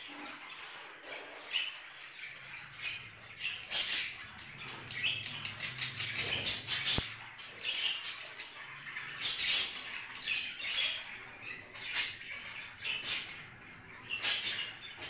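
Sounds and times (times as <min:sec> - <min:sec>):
budgerigars chirping and chattering: 0:00.0 - 0:15.0.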